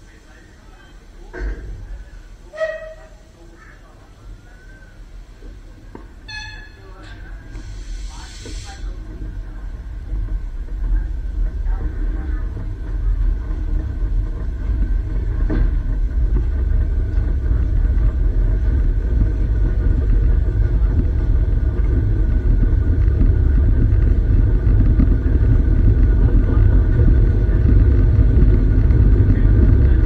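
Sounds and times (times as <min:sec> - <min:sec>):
train carriage rumbling: 0:00.0 - 0:30.0.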